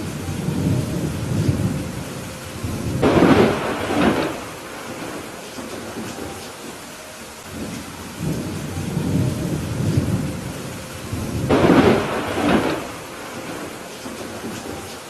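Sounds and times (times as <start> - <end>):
sharp thunderclap: 0.0 - 6.7, 7.5 - 15.0
rain falling: 0.0 - 15.0
thunder rumble: 0.0 - 15.0.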